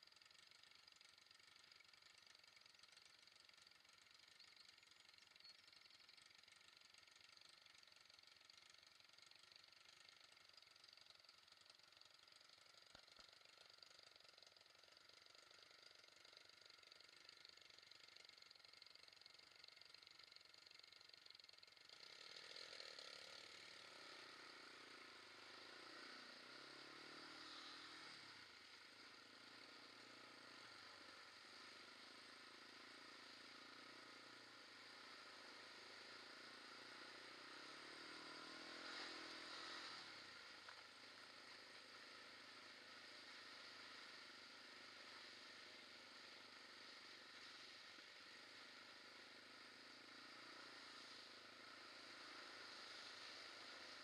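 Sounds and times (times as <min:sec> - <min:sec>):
faint quad bike engine revving: 0:00.0 - 0:54.0.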